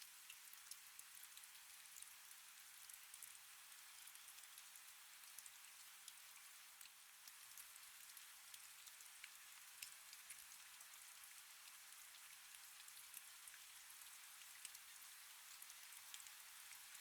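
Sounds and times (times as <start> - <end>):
soft rain hiss: 0.0 - 17.0.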